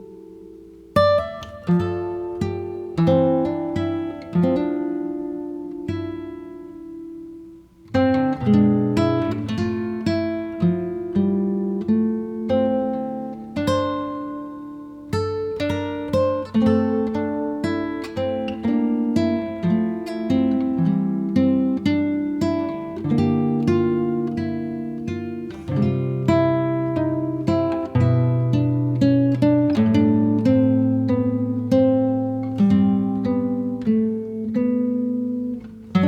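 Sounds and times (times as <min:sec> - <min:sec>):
plucked acoustic guitar: 0:00.0 - 0:36.0.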